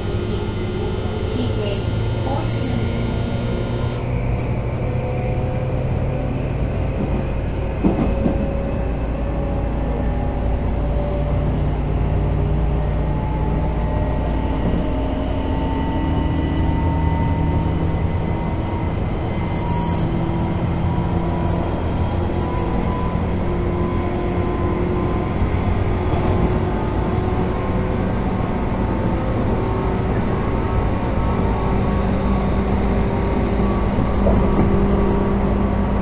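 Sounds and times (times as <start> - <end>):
wheel-on-rail rumble: 0.0 - 36.0.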